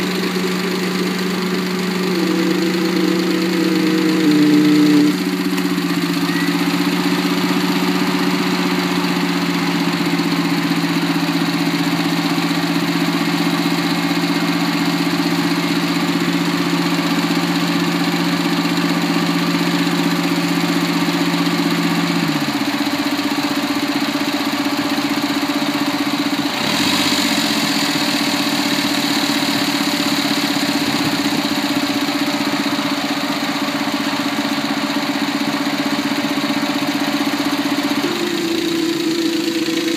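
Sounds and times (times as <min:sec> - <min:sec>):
car engine idling with droning hum: 0:00.0 - 0:39.9.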